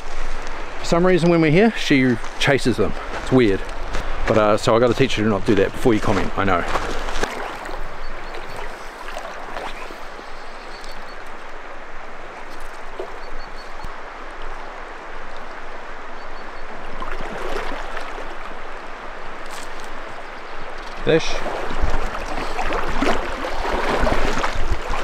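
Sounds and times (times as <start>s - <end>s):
river flowing: 0.0s - 25.0s.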